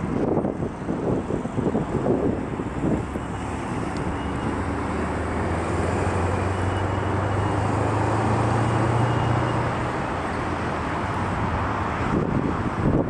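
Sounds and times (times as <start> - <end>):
outdoor traffic noise: 0.0 - 13.0
vehicle engine hum: 0.0 - 13.0.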